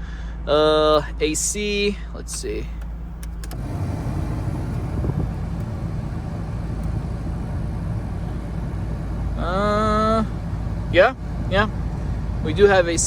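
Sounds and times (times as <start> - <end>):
car engine idling: 0.5 - 13.0
air conditioning blower fan: 1.3 - 13.0.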